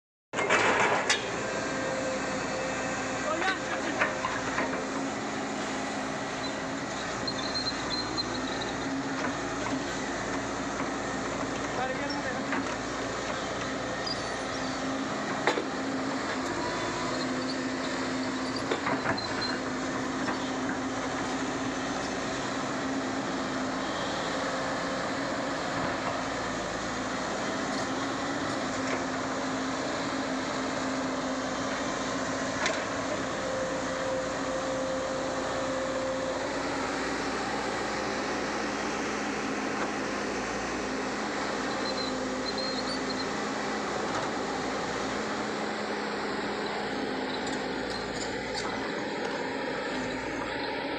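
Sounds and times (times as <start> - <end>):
diesel engine of earthmover: 0.4 - 50.9.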